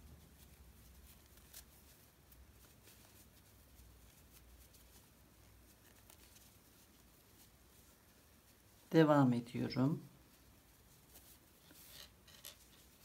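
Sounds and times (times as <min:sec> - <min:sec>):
crochet hook clicks and yarn rustles: 0:00.0 - 0:07.8, 0:10.4 - 0:13.0.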